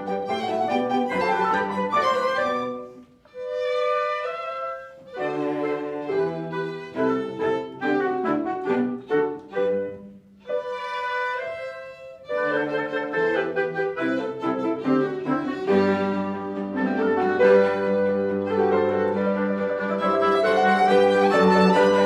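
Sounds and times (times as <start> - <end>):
chamber ensemble classical music: 0.0 - 22.0
violin: 0.0 - 22.0.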